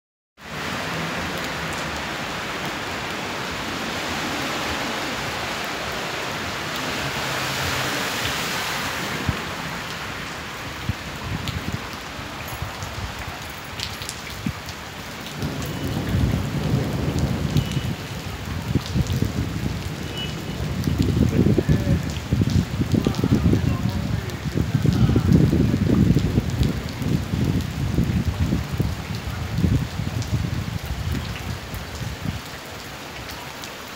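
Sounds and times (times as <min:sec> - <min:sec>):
heavy rain hissing: 0:00.4 - 0:13.8, 0:14.4 - 0:33.9.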